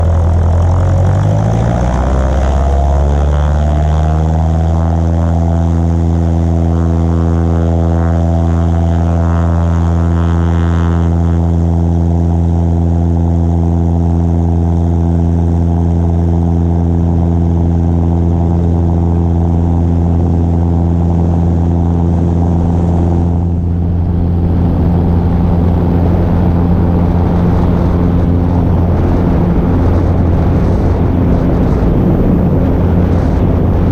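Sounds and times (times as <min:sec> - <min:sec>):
propeller plane engine drone: 0:00.0 - 0:33.9.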